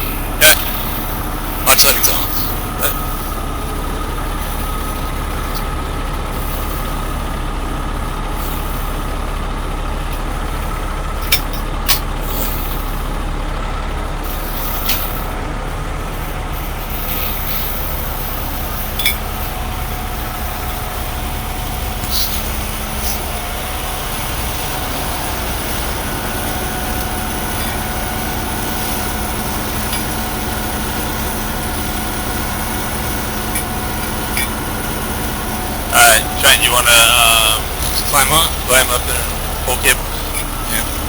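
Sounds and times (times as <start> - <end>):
diesel truck engines idling: 0.0 - 41.0.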